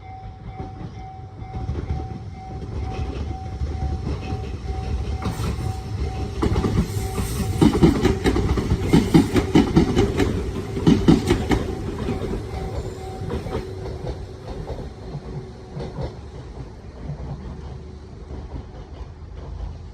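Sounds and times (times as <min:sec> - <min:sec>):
train wheels clacking over rail joints: 0:00.5 - 0:19.9.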